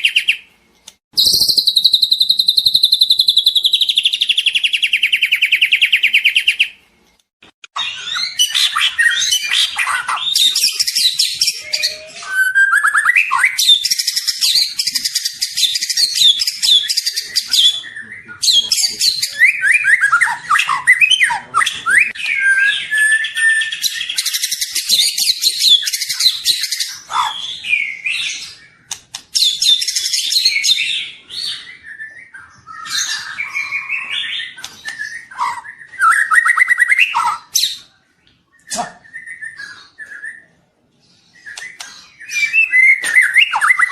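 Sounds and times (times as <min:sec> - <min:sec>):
bird singing whistles and trills: 0:00.0 - 0:00.5, 0:01.2 - 0:06.8, 0:07.8 - 0:37.9, 0:38.5 - 0:43.9.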